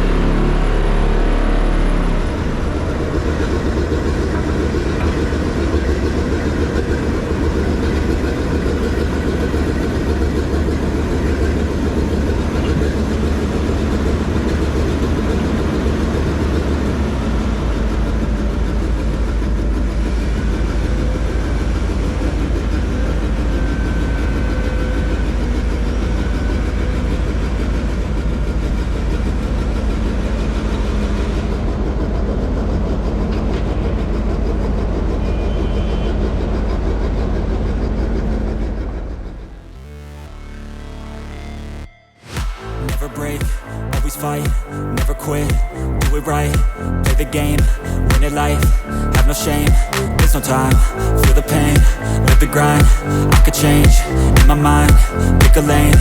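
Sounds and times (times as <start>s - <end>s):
excavator diesel engine drone: 0.0s - 56.0s.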